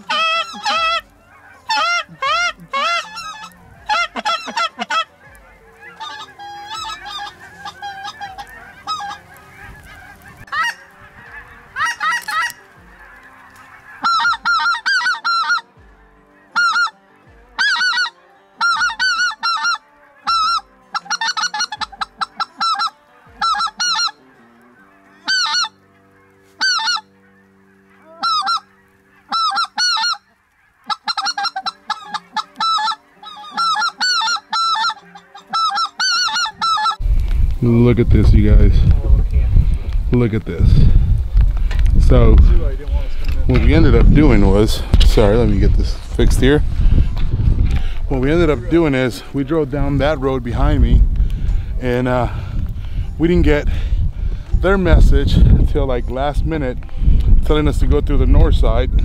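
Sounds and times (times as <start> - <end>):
flock clamour: 0.0 - 53.2
geese honking: 0.0 - 59.0.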